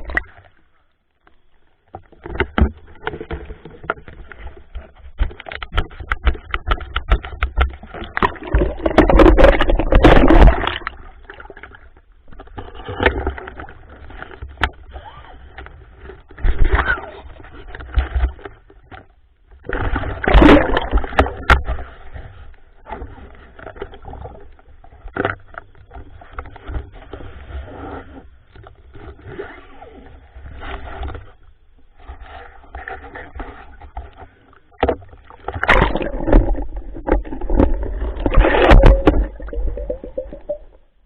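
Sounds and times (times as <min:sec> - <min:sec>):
muffled underwater sloshing and bubbling: 0:00.0 - 0:41.0
small underwater clicks: 0:00.0 - 0:41.0.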